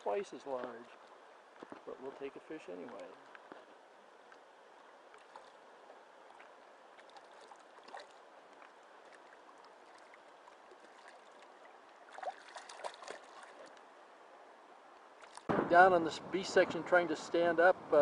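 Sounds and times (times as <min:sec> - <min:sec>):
faint flowing river water: 0:00.0 - 0:18.0.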